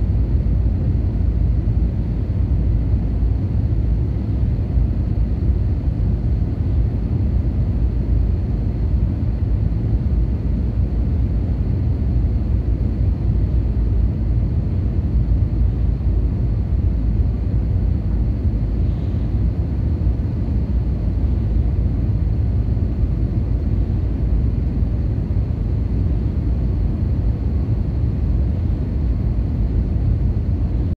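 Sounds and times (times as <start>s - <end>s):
faint high whine: 0.0s - 31.0s
steady low rumble: 0.0s - 31.0s.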